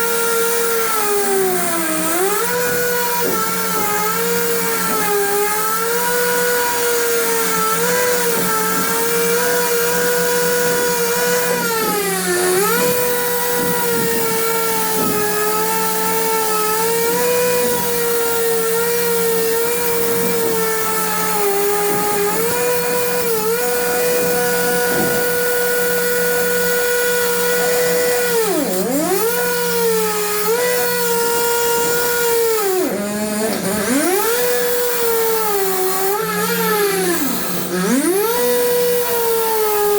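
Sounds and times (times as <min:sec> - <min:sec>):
power tool whining: 0:00.0 - 0:39.9.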